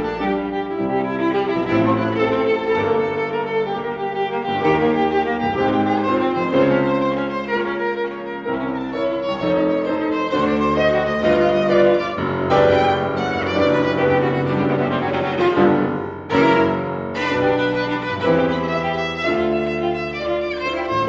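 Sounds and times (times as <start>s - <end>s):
grand piano accompaniment: 0.0s - 21.0s
viola bowing a melody: 0.0s - 21.0s.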